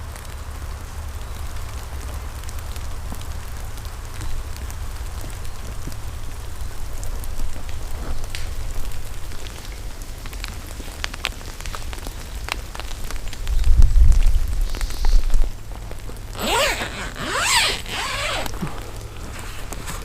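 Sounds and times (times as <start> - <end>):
rain pattering: 0.0 - 20.0
sharp ticks of raindrops: 0.0 - 20.0.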